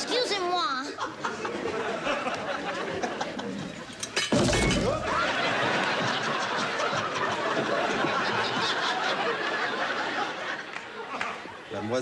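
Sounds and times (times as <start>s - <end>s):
studio audience laughing: 0.9s - 3.9s, 5.0s - 12.0s.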